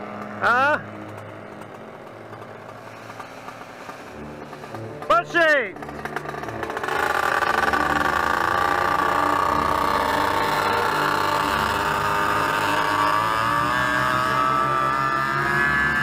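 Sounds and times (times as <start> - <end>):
paramotor engine running: 0.0 - 16.0.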